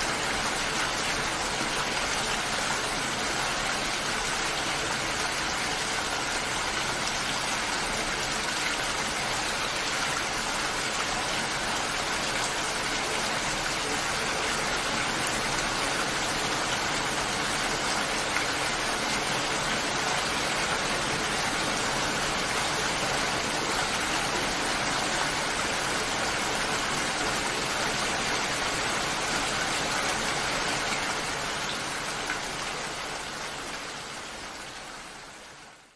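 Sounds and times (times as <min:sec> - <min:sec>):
steady rainfall: 0:00.0 - 0:35.9.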